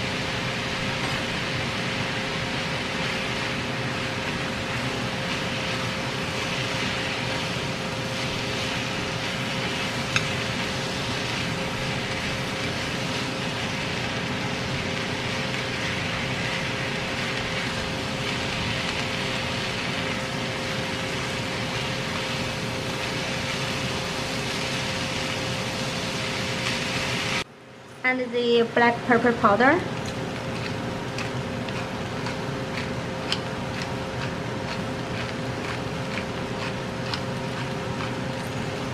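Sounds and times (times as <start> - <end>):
stir-fry sizzling: 0.0 - 27.5, 28.4 - 38.9
steady hum: 0.0 - 38.9.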